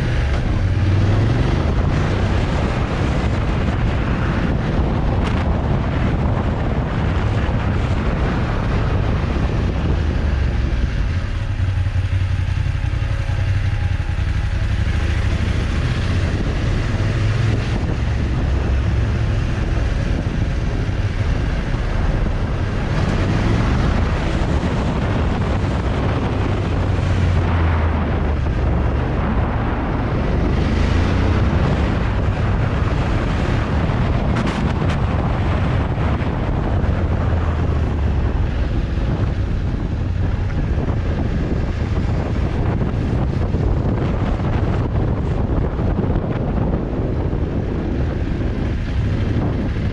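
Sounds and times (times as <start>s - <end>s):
motorcycle engine running: 0.0s - 49.9s
wind rushing over microphone: 0.0s - 49.9s.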